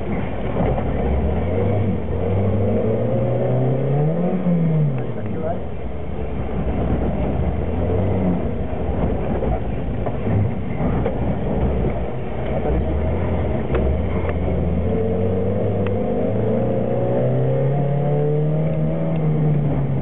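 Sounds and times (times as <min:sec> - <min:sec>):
car engine working hard: 0:00.0 - 0:20.0
tyre and road noise: 0:00.0 - 0:20.0.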